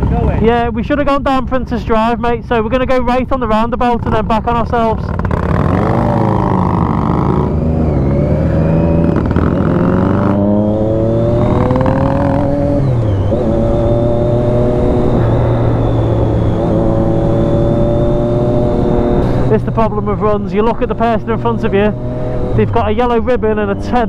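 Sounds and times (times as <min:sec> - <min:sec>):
motorcycle engine accelerating: 0:00.0 - 0:00.6, 0:03.9 - 0:24.0.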